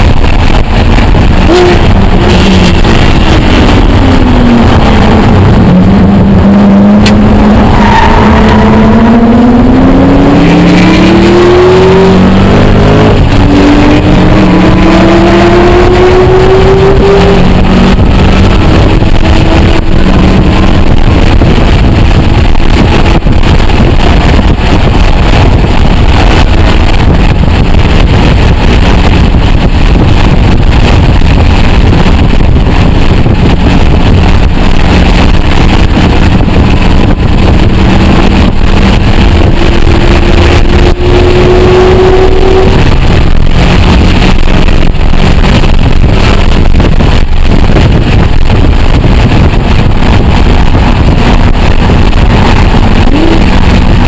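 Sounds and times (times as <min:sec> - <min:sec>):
car engine accelerating: 0:00.0 - 0:54.0
heavy road noise: 0:00.0 - 0:54.0.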